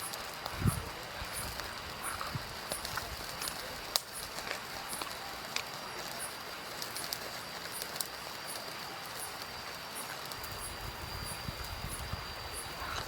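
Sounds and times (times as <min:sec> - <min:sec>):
insects droning: 0:00.0 - 0:13.0
soft hiss: 0:00.0 - 0:13.0.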